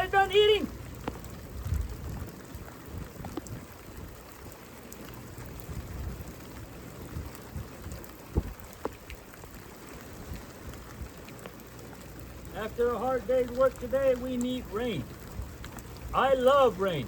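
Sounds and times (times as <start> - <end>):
rain drop taps: 0.0 - 17.0
rain falling: 0.0 - 17.0.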